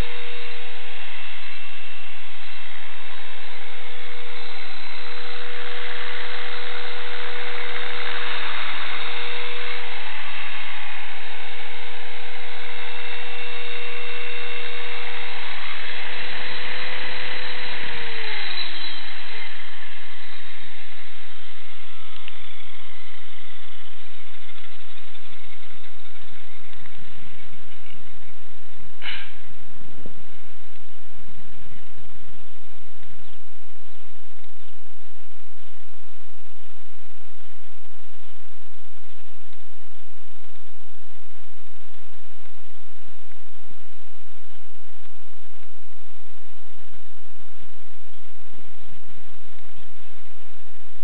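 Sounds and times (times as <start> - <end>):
model helicopter motor whine: 0.0 - 51.0.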